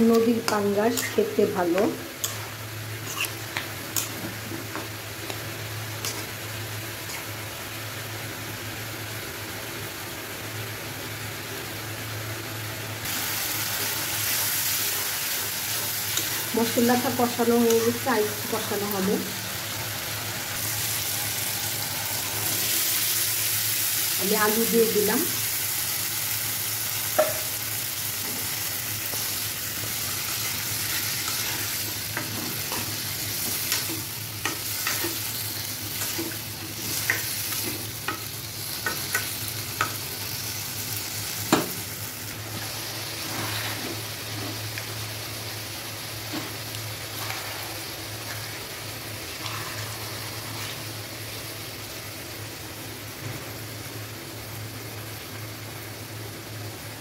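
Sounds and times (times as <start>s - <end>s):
potatoes sizzling in oil: 0.0s - 57.0s.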